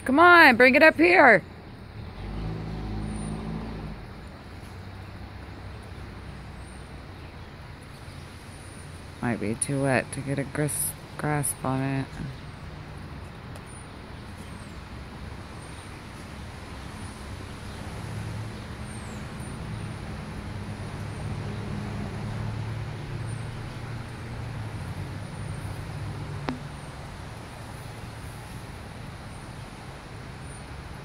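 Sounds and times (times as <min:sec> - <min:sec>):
steady traffic hiss: 0:00.0 - 0:31.0
vehicle rumble: 0:00.0 - 0:31.0.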